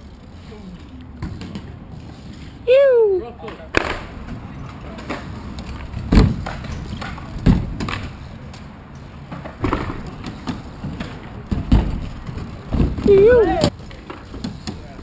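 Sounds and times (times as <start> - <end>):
bike thudding on concrete: 0.8 - 2.6, 3.4 - 15.0.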